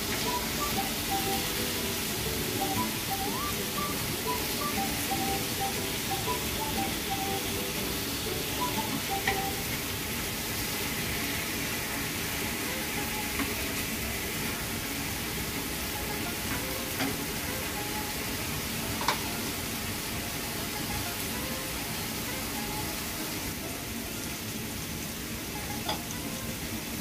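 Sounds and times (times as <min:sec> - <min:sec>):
meat sizzling in a frying pan: 0:00.0 - 0:27.0.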